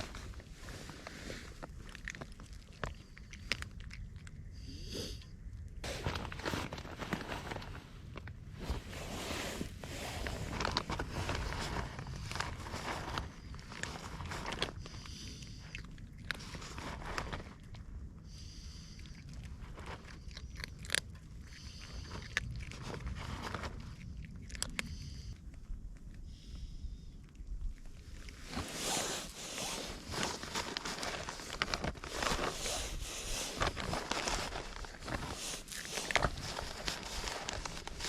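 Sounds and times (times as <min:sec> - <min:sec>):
cats crunching dry food: 0:00.0 - 0:38.0.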